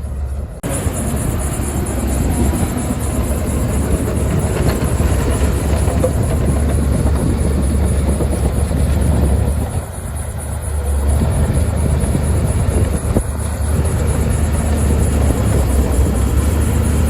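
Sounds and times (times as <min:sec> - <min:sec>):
heavy machine diesel engine: 0:00.0 - 0:17.0.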